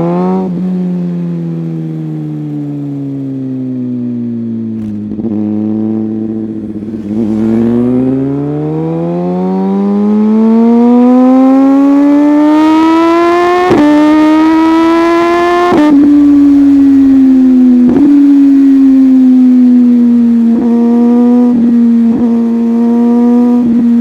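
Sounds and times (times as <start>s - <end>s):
motorcycle engine accelerating: 2.3s - 24.0s.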